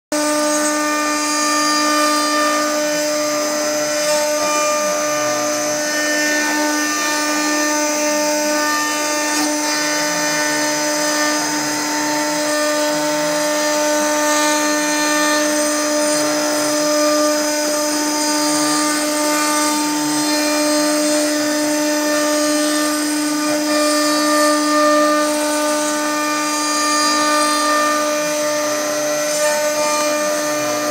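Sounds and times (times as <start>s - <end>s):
router spindle whine: 0.1s - 30.9s.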